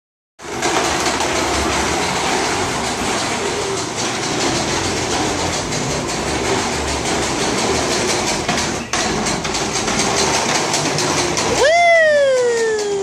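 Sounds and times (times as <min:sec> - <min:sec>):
lawn mower running: 0:00.4 - 0:13.0.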